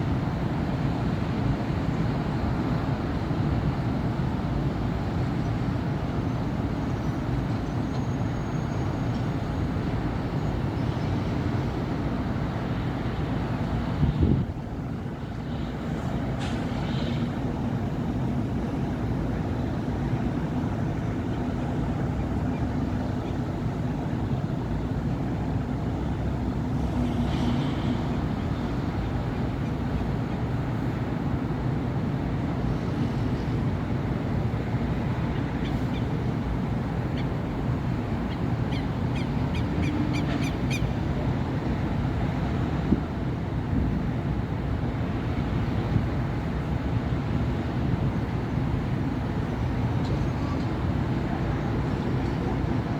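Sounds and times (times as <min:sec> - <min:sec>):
city traffic: 0:00.0 - 0:52.9.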